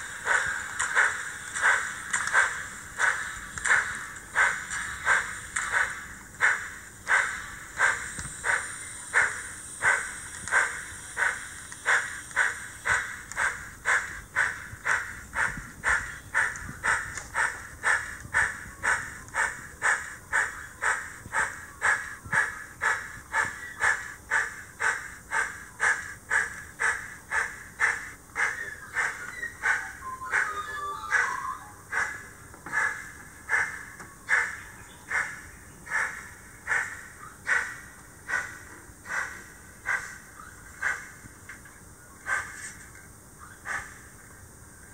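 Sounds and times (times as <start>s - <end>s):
model steam locomotive chuffing: 0.0s - 41.4s, 42.2s - 43.0s, 43.6s - 44.2s.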